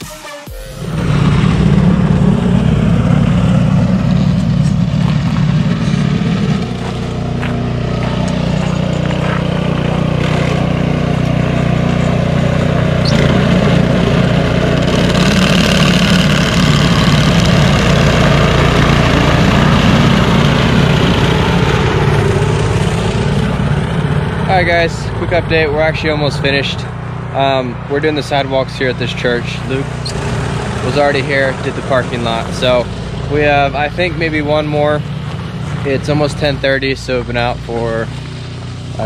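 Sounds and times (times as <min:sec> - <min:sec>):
tractor engine running: 0:00.0 - 0:39.0
road and wind hiss: 0:00.9 - 0:13.1, 0:13.9 - 0:39.0.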